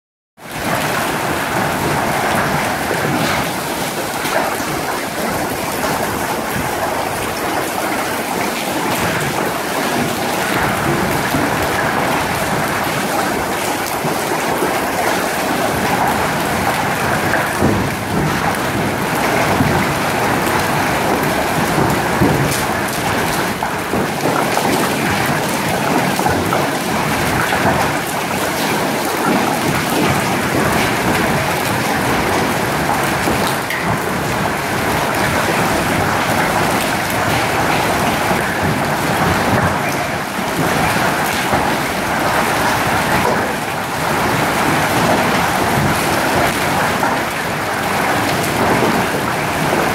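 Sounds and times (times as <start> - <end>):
heavy rain downpour: 0.4 - 49.9
hailstones ticking on ground: 0.5 - 49.9.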